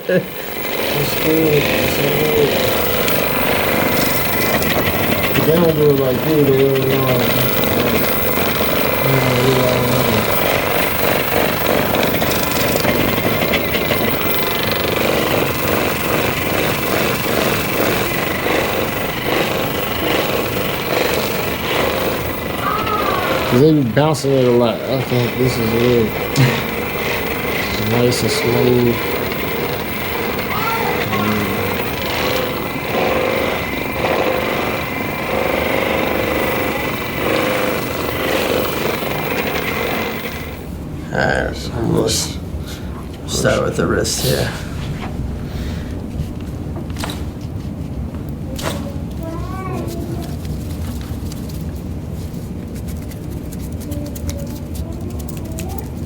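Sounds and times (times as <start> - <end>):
massage gun pulsing: 0.0 - 47.4.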